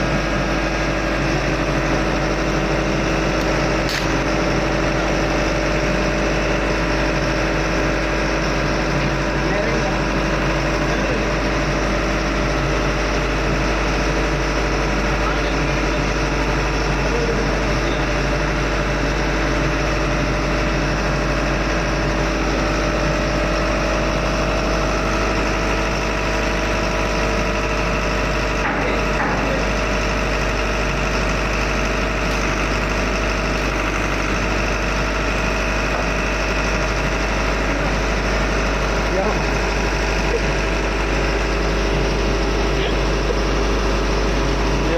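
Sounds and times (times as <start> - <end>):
ship engine drone: 0.0 - 44.9.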